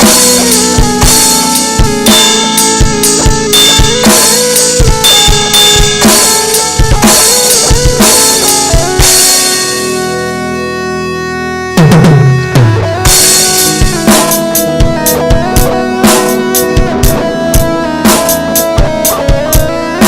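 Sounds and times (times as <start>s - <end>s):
held guitar chord ringing: 0.0s - 20.0s
instrumental rock music: 0.0s - 20.0s.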